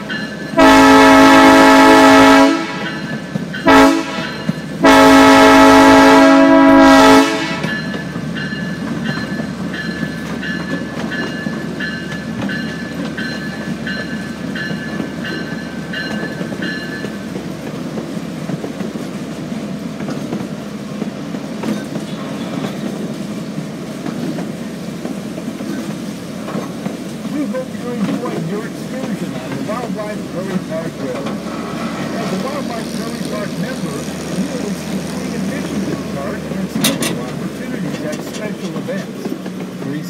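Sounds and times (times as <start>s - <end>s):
small train rumbling on track: 0.0s - 40.0s.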